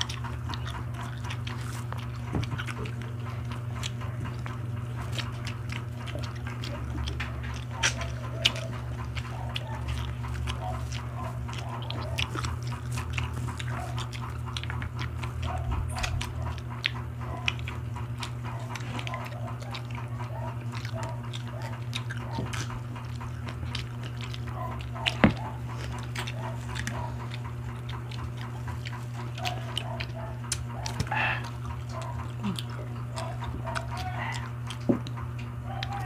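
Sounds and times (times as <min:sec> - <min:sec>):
people chewing and lip-smacking: 0:00.0 - 0:36.0
steady low hum: 0:00.0 - 0:36.0.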